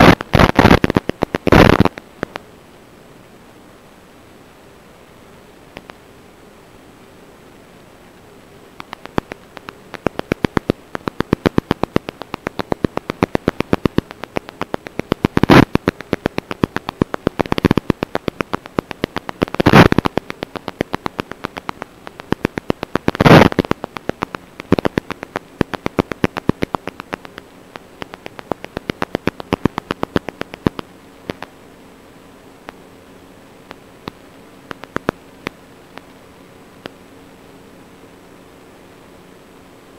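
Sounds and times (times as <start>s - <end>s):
radio static clicks: 0.0s - 2.5s, 5.7s - 6.1s, 7.8s - 31.6s, 32.3s - 37.6s
static hiss: 0.0s - 39.9s.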